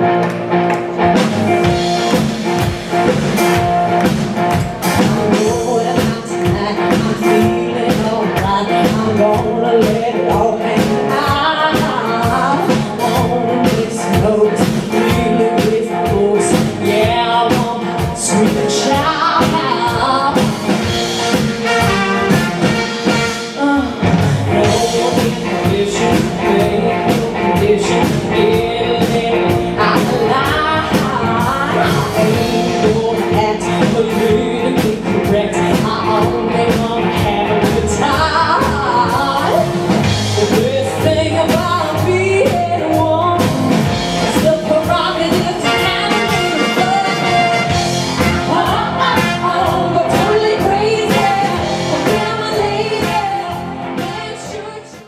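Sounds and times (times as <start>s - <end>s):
lead singer singing: 0.0s - 55.0s
live band playing upbeat song: 0.0s - 55.0s.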